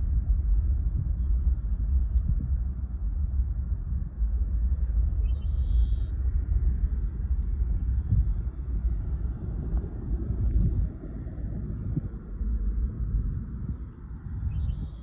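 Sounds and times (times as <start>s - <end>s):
jet engines rumbling at takeoff: 0.0s - 15.0s.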